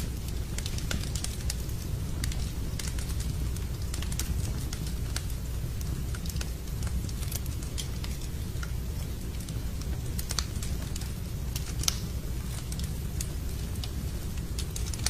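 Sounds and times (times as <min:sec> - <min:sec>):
rain: 0:00.0 - 0:15.0
wood fire crackling and popping: 0:00.0 - 0:15.0.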